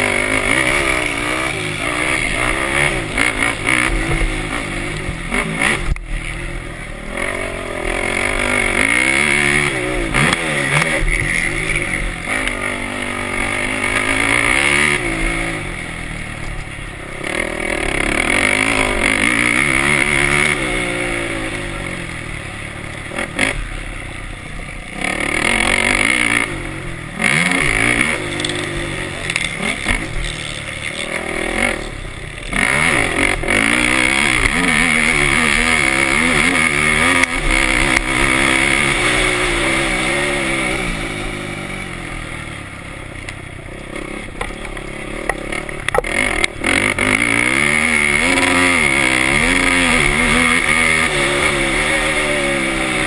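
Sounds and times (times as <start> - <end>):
quad engine revving hard: 0.0 - 16.4, 17.1 - 24.0, 24.8 - 53.0.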